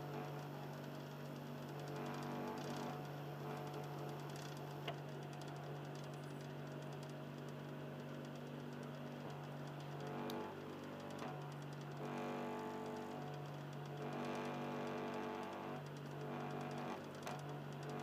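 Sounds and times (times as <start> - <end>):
disc drive grinding and humming: 0.0 - 18.0.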